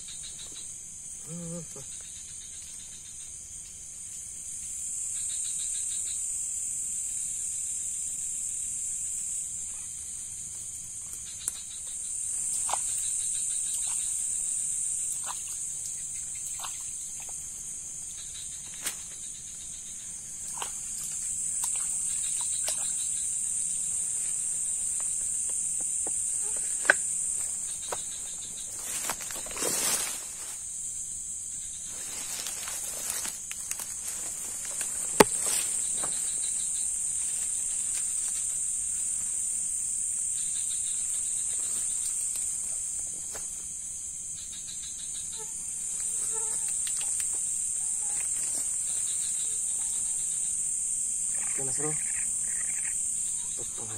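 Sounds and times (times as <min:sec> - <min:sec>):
insects droning: 0:00.0 - 0:53.9
soft insect chirring: 0:00.0 - 0:53.9.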